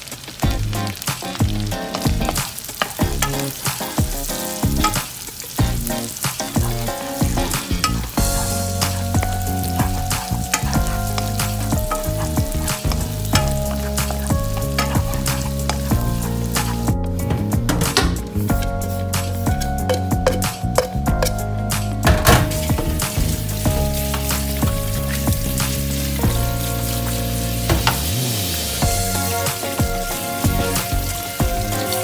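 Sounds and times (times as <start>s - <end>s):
garlic and onion sizzling in oil: 0.0s - 32.0s.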